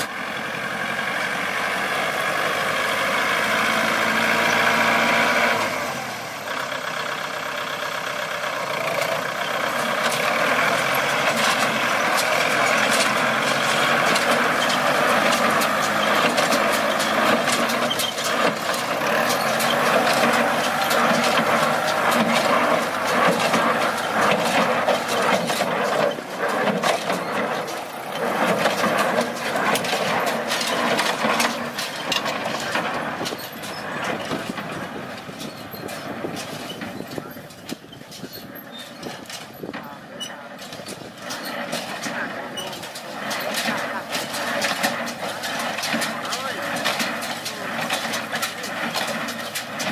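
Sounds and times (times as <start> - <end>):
farm machinery knocking: 0.0 - 49.9
tractor engine running: 0.0 - 49.9.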